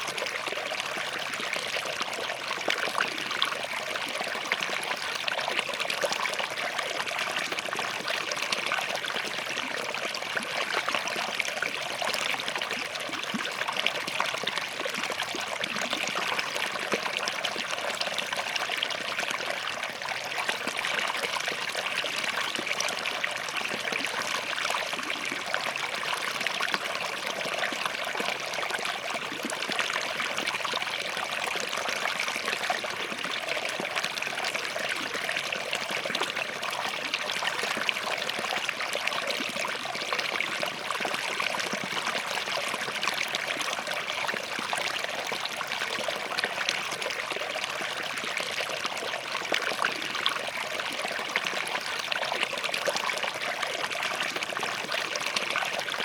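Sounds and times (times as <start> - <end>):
stream bubbling over rocks: 0.0 - 56.0.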